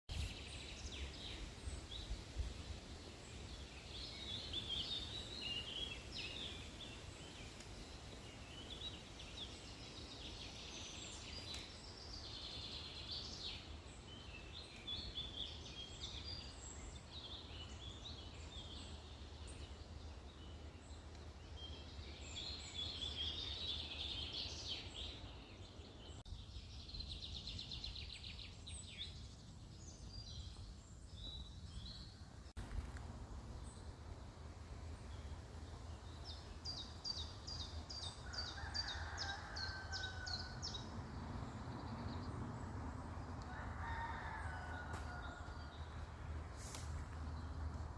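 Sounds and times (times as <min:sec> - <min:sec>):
songbirds singing and chirping: 0:00.1 - 0:47.9.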